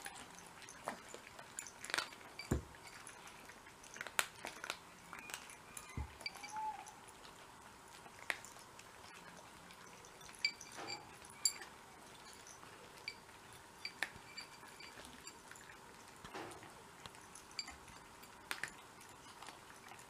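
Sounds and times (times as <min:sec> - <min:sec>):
cats eating from ceramic bowls: 0:00.0 - 0:20.0.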